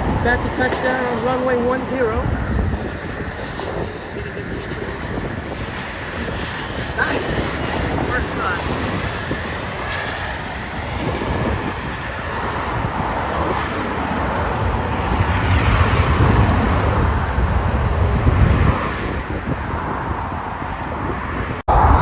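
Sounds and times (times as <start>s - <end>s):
jet engines roaring on landing: 0.0s - 22.0s.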